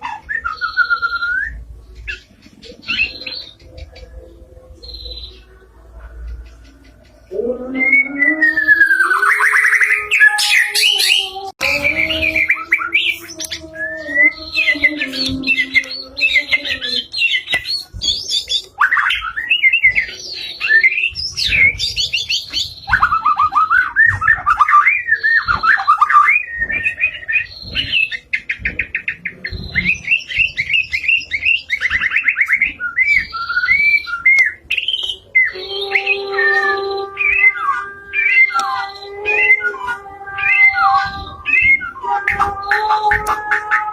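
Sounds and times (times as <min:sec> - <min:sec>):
bird singing varied song: 0:00.0 - 0:43.9.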